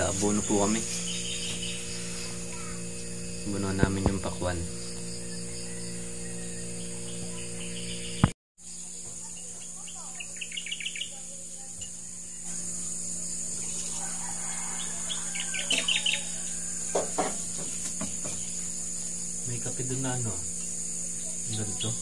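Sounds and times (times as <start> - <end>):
birds chirping: 0.0 - 22.0
high insect drone: 0.0 - 22.0.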